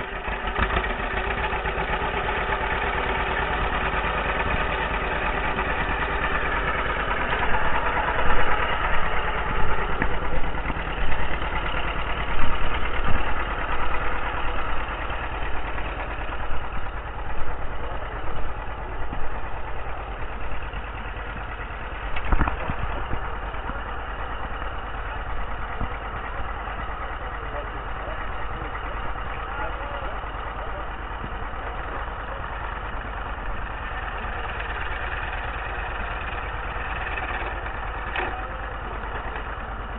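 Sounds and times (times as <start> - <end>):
farm equipment engine running: 0.0 - 39.9.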